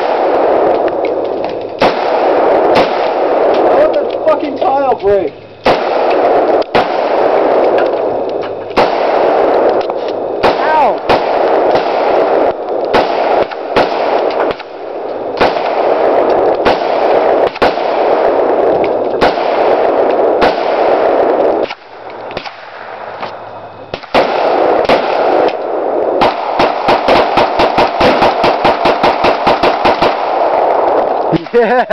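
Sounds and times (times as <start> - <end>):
gunshots: 0.0 - 31.9
steady rushing noise: 0.0 - 31.9.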